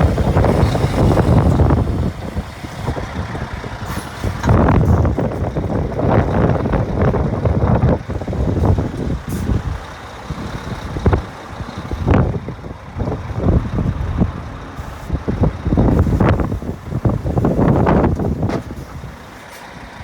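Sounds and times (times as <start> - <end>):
truck diesel engine rumbling: 0.0 - 20.0.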